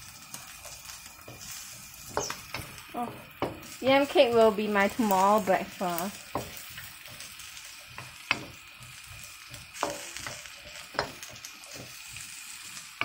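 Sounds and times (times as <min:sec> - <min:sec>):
food sizzling in oil: 0:00.0 - 0:13.0
spatula knocking and scraping wok: 0:00.2 - 0:13.0.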